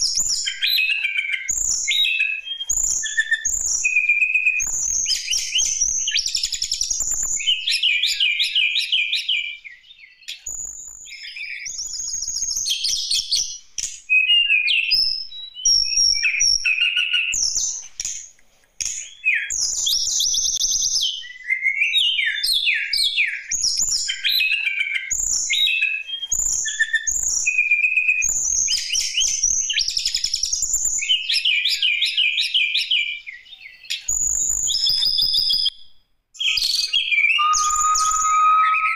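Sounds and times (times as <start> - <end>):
bird singing trills and whistles: 0.0 - 17.9, 19.0 - 35.8, 36.4 - 38.9.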